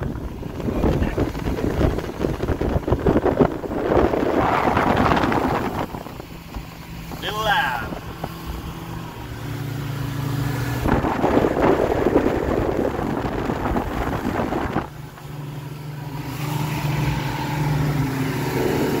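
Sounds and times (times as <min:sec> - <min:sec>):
boat engine running: 0:00.0 - 0:19.0
loud rough rushing noise: 0:00.0 - 0:19.0
water and wind rushing: 0:00.0 - 0:19.0.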